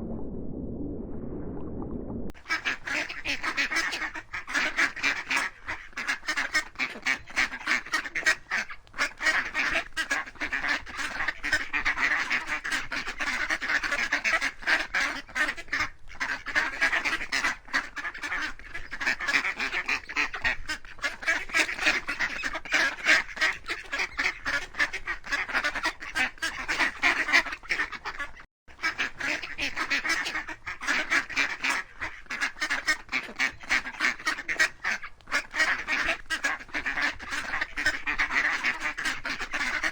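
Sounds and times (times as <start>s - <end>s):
waterfowl calling: 2.4s - 39.9s.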